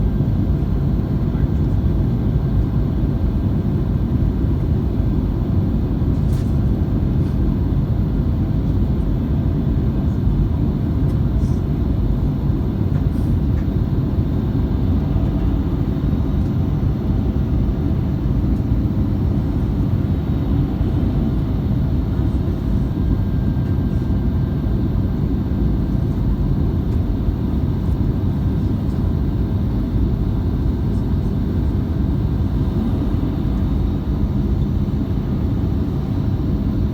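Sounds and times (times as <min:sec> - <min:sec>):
airplane cabin roar: 0:00.0 - 0:36.9.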